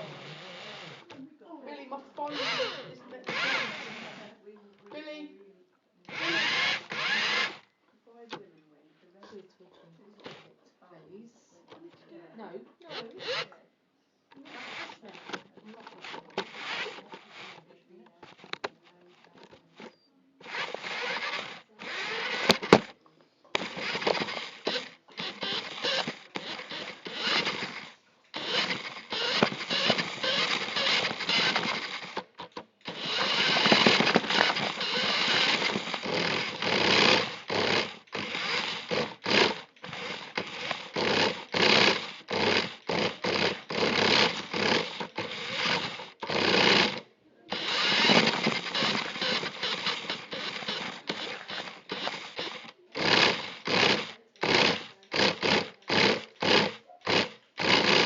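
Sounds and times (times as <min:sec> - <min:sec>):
toy car motor whirring: 0:00.0 - 0:01.2, 0:02.2 - 0:04.4, 0:06.1 - 0:07.7, 0:12.9 - 0:13.6, 0:14.3 - 0:58.0.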